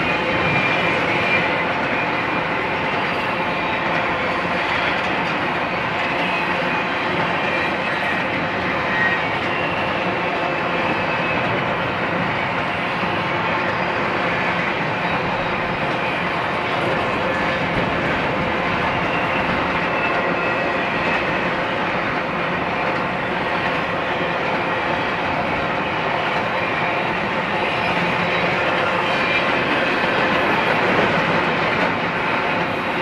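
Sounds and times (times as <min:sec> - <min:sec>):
steel train wheels on rails: 0:00.0 - 0:33.0.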